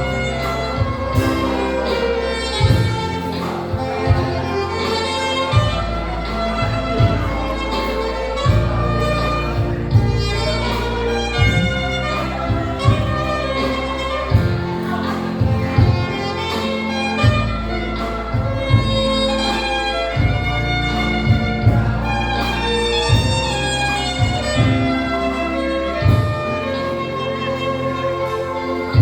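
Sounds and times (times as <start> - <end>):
instrumental music with steady beat: 0.0 - 29.0.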